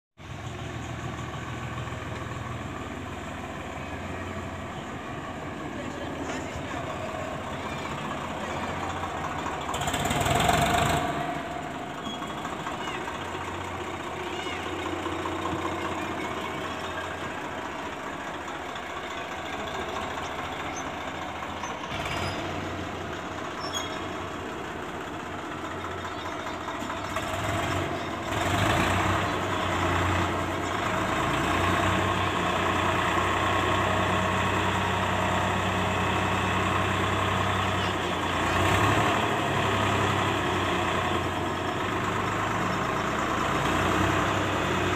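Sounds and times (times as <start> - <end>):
tractor diesel engine running: 0.2 - 44.9.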